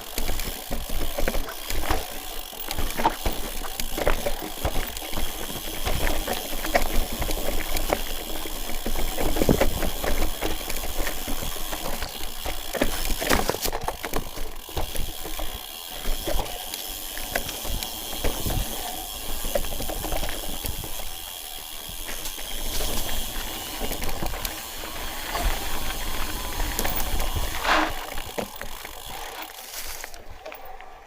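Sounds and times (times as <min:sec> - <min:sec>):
footsteps crunching on rocky trail: 0:00.0 - 0:31.0.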